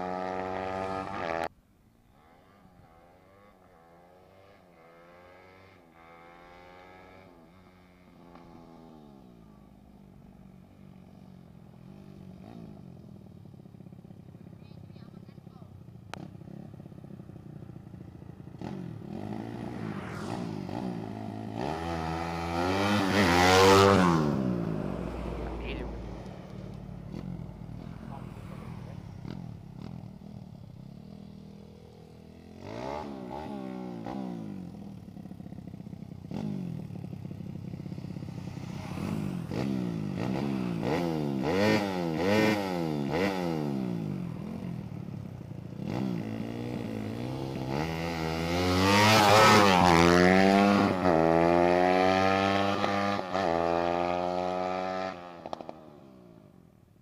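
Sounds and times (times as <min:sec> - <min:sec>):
motorcycle engine revving and accelerating: 0:00.0 - 0:01.5, 0:02.2 - 0:56.8.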